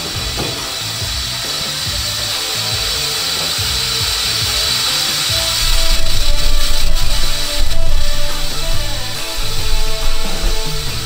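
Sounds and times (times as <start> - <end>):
steam hissing from pressure cooker: 0.0 - 11.0.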